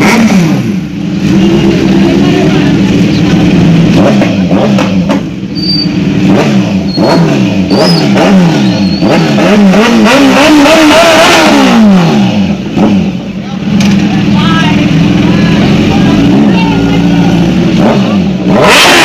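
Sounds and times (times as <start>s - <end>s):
motorbike engines revving: 0.0s - 19.0s.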